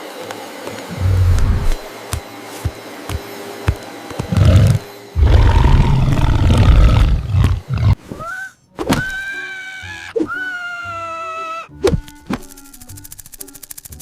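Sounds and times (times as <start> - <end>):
light background music: 0.0 - 14.0.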